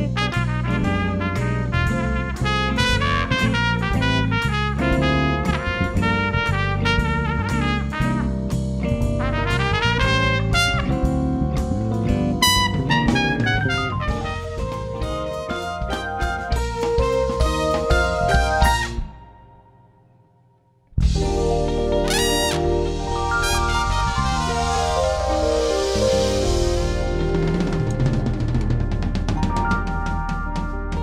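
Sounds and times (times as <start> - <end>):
jazz-blues band playing: 0.0 - 19.3, 21.0 - 31.0
trumpet playing quick runs: 0.1 - 8.6, 9.2 - 11.2, 12.4 - 19.4, 22.0 - 31.0.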